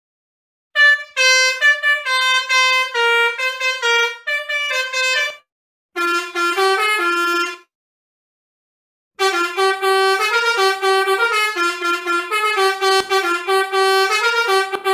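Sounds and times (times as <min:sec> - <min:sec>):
bus horn tune: 0:00.8 - 0:07.7, 0:09.2 - 0:14.9.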